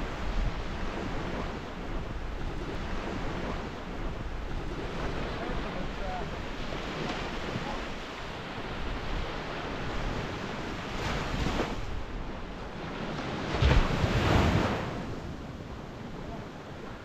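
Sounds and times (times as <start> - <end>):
small waves breaking on sand: 0.0 - 17.0
wind on the microphone: 0.0 - 17.0.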